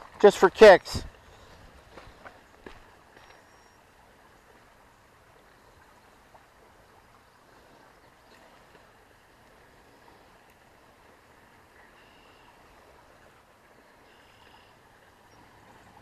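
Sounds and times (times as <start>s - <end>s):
faint outdoor background hiss: 0.0s - 16.0s.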